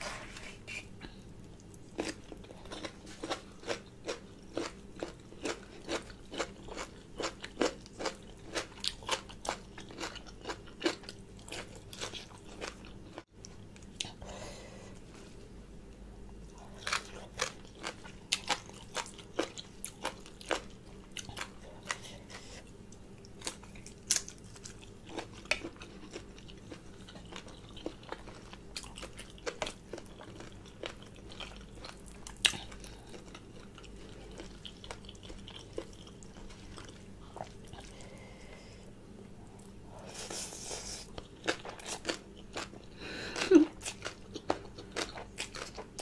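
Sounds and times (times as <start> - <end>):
person chewing crunchy food: 0.0 - 14.2, 16.4 - 38.8, 39.4 - 46.0.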